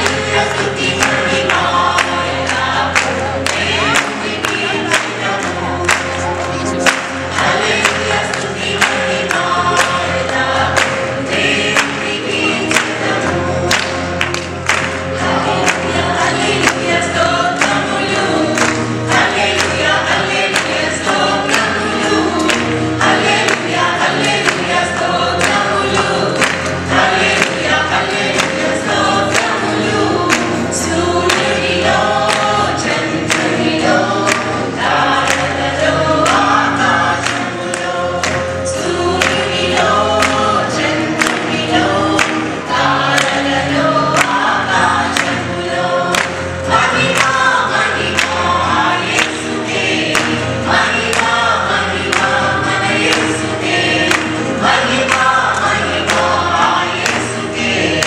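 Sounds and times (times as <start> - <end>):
acoustic guitar: 0.0 - 58.0
mixed choir singing: 0.0 - 58.0.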